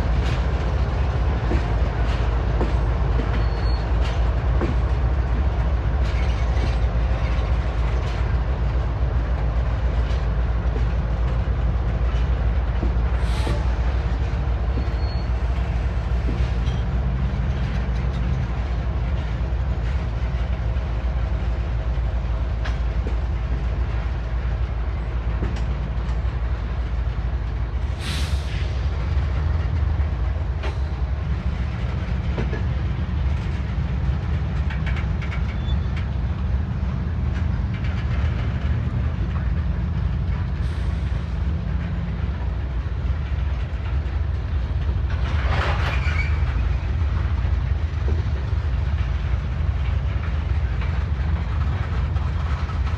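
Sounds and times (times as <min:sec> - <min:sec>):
freight train cars rolling: 0:00.0 - 0:52.9
train cars clanking: 0:00.0 - 0:52.9.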